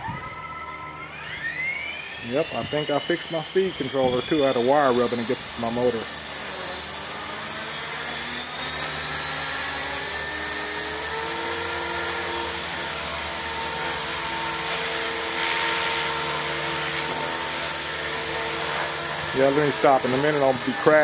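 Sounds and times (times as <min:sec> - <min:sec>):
helicopter motor and rotor whine: 0:00.0 - 0:21.0.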